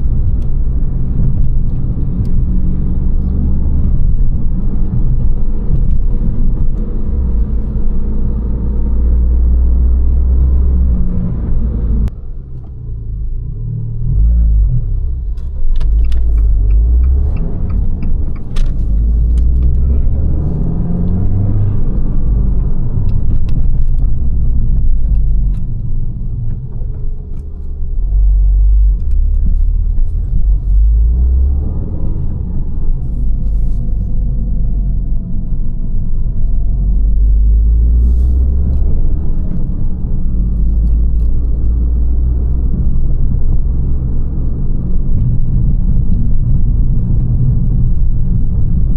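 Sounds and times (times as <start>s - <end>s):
car engine low rumble: 0.0s - 48.9s.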